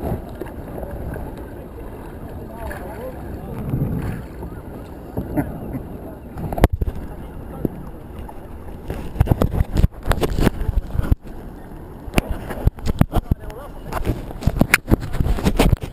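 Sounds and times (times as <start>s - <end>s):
wind buffeting microphone: 0.0s - 15.9s.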